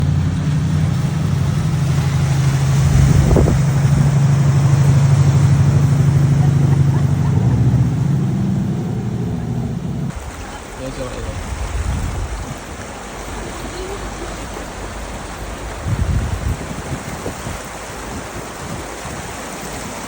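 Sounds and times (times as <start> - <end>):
vehicle engine humming: 0.0 - 19.6
road noise: 0.0 - 20.0.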